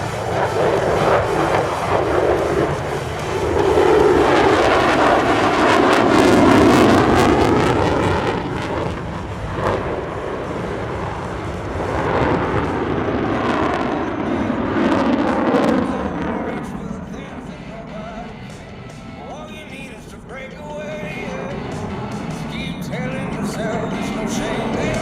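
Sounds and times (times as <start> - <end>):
jet flying past: 0.0 - 25.0.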